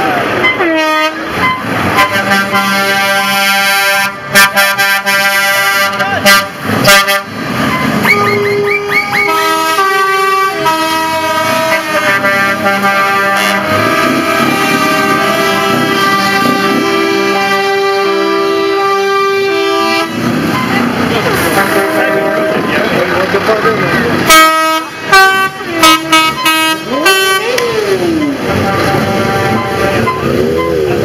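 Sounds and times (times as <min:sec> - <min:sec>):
truck engines: 0:00.0 - 0:31.0
truck air horns: 0:00.4 - 0:22.6, 0:24.2 - 0:30.8.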